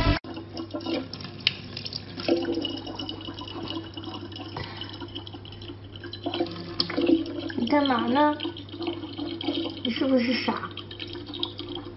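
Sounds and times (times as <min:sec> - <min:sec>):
water pouring into plastic jug: 0:00.0 - 0:11.9.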